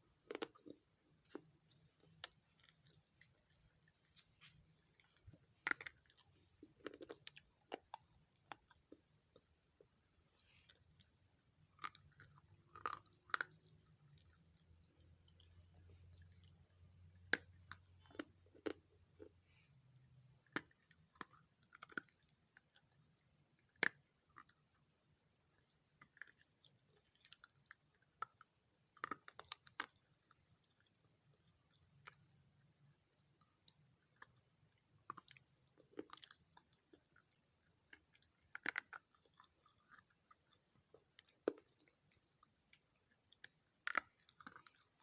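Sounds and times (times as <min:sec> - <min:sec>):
person chewing: 0:00.0 - 0:14.6, 0:15.2 - 0:24.8, 0:33.1 - 0:45.0.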